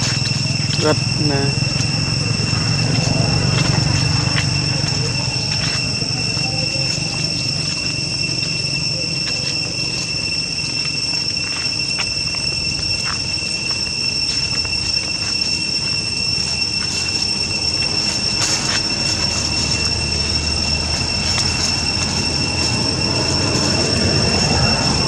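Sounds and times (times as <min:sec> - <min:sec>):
dry leaves rustling and clicking: 0:00.0 - 0:25.0
insects droning: 0:00.0 - 0:25.0.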